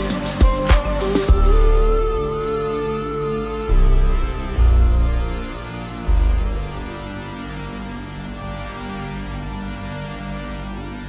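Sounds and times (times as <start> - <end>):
slow electronic r and b song: 0.0 - 11.0.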